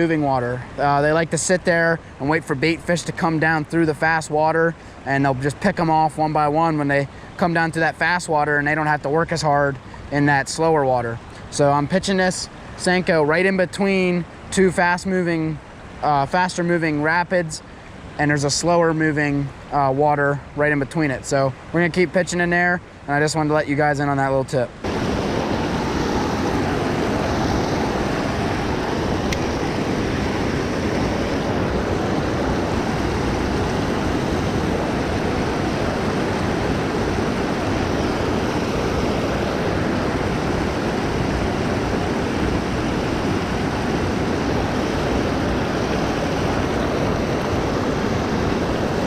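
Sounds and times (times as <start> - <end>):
creek water rushing over rapids: 0.0 - 49.0.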